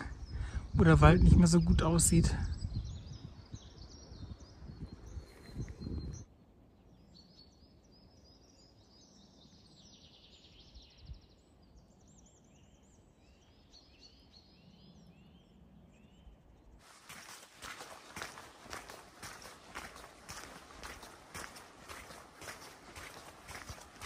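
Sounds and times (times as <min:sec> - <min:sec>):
songbirds singing and chirping: 0:00.0 - 0:24.0.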